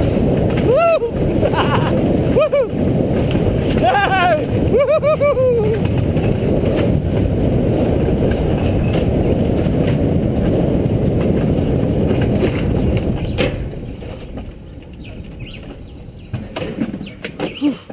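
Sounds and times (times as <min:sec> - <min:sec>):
sled rumbling on metal rail: 0:00.0 - 0:17.9.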